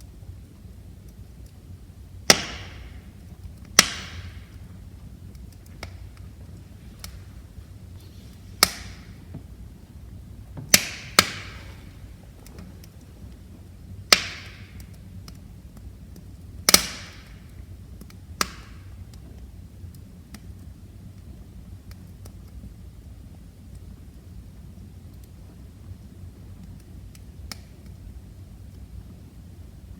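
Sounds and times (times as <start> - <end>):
low rumble of flames: 0.0 - 29.9
wood fire popping and crackling: 0.0 - 29.9.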